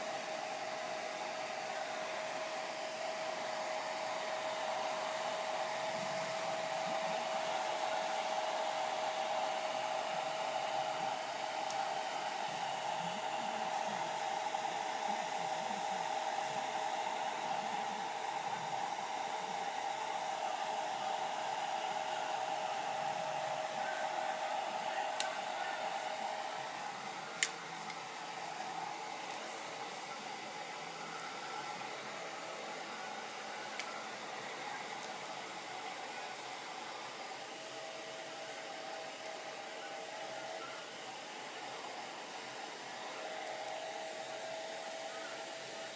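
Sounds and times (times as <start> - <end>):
hair dryer blowing: 0.0 - 45.9.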